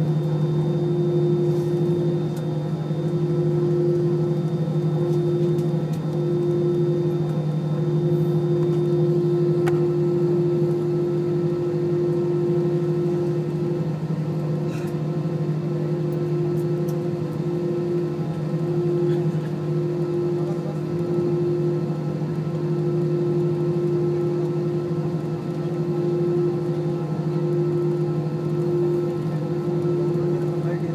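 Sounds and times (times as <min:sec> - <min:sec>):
airliner cabin drone: 0:00.0 - 0:30.9.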